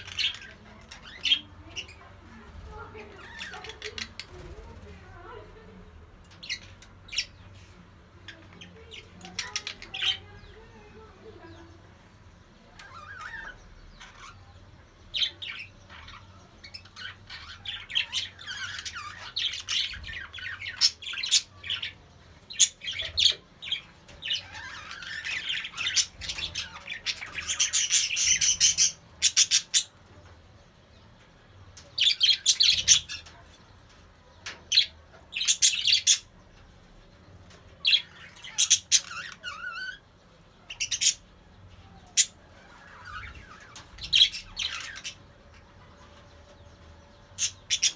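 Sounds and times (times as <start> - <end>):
budgerigars chirping and warbling: 0.0 - 47.9.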